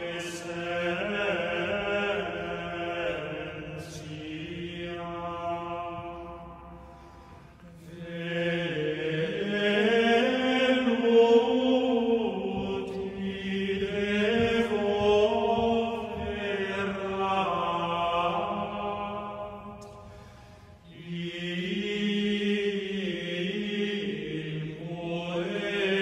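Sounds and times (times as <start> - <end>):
slow chanted singing: 0.0 - 26.0.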